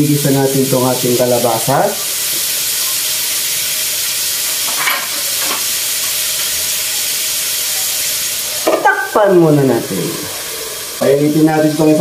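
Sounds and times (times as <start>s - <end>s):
frying sizzle in wok: 0.0s - 12.0s.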